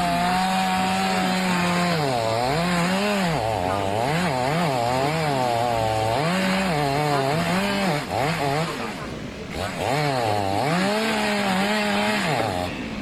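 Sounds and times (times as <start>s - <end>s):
small engine revving: 0.0s - 13.0s.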